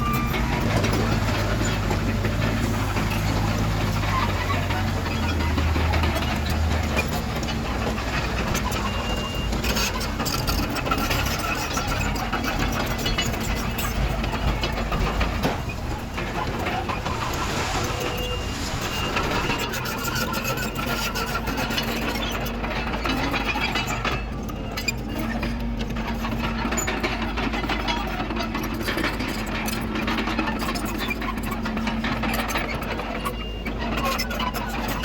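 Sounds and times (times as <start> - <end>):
bulldozer diesel engine running: 0.0 - 35.0
clatter of short knocks: 0.0 - 35.0.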